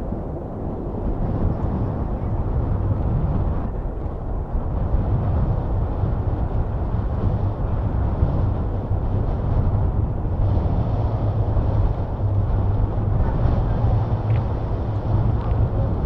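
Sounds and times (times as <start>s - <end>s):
jet airliner rumble: 0.0s - 16.0s
wind buffeting microphone: 0.0s - 16.0s.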